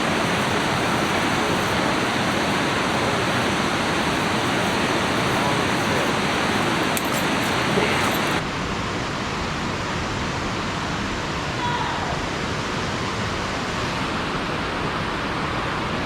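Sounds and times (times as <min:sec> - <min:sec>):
water rushing from dam: 0:00.0 - 0:16.0.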